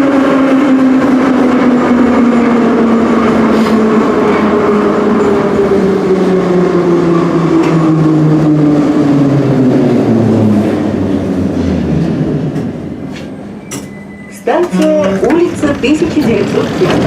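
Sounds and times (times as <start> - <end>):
metro train motor and gear whine: 0.0 - 17.0.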